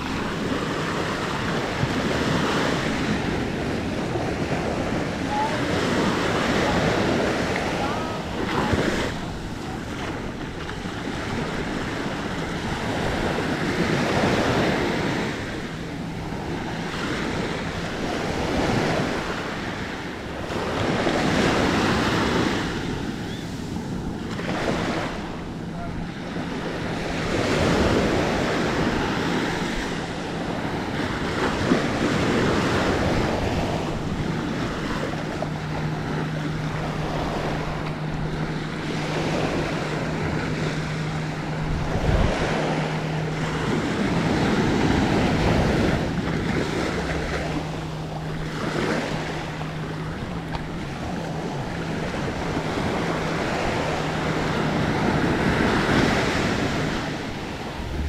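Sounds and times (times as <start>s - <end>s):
low steady hum: 0.0s - 58.0s
small waves breaking on sand: 0.0s - 58.0s
wind on microphone: 0.0s - 58.0s.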